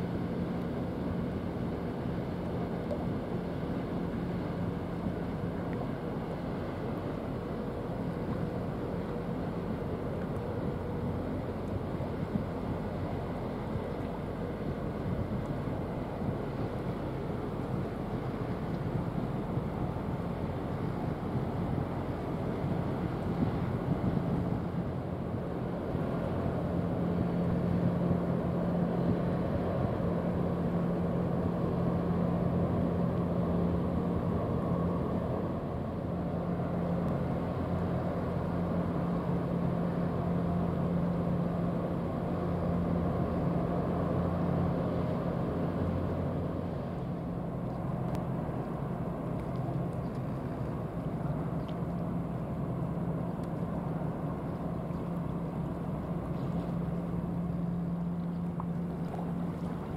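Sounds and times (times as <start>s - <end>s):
ship diesel engines droning: 0.0s - 59.9s.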